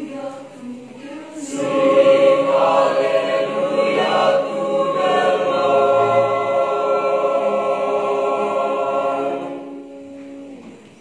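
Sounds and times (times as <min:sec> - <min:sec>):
choir holding a chord: 0:01.4 - 0:11.0.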